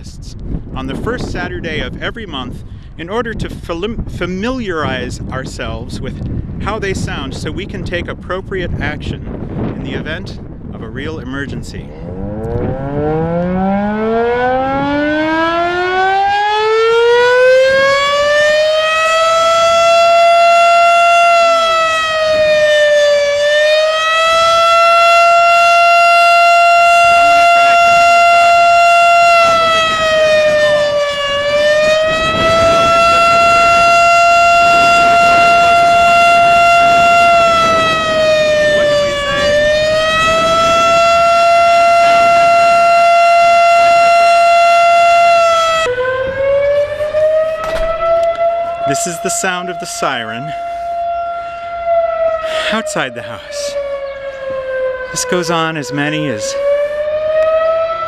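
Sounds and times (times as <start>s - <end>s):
fire siren wailing: 0.0s - 2.6s, 11.9s - 58.0s.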